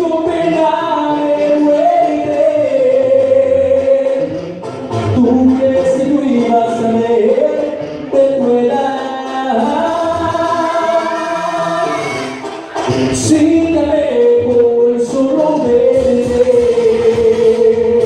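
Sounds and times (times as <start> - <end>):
backing music: 0.0 - 18.0
person singing: 0.0 - 18.0.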